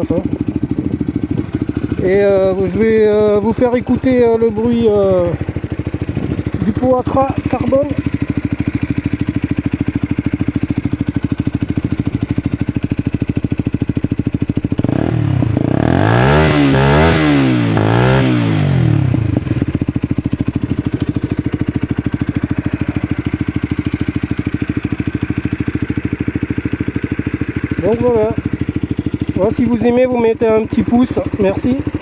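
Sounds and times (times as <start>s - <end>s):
motorcycle idling and revving: 0.0s - 32.0s.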